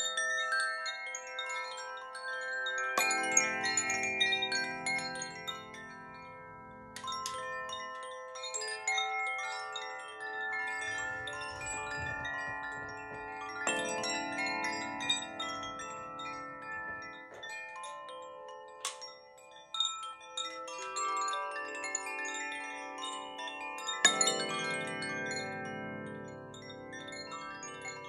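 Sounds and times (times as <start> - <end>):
bamboo wind chimes tinkling: 0.0 - 28.0.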